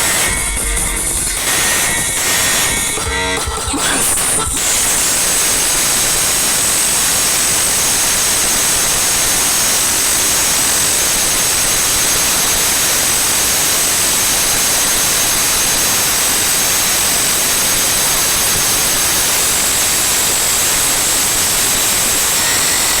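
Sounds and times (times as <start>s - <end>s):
loud static hiss: 0.0s - 23.0s.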